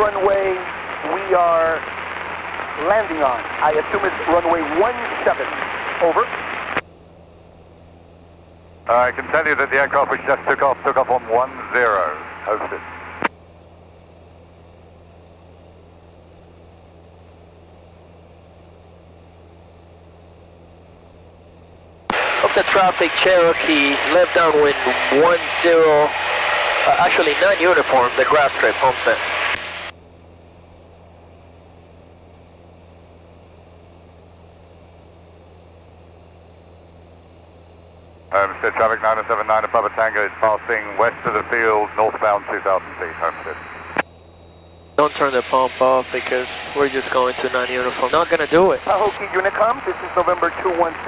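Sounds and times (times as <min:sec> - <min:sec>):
aircraft engine drone: 0:00.0 - 0:51.0
high electronic whine: 0:00.0 - 0:51.0.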